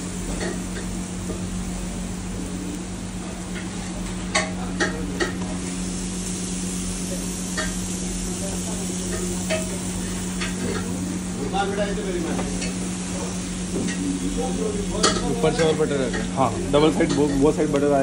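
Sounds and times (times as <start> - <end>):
sandwiches sizzling on a grill: 0.0 - 18.0.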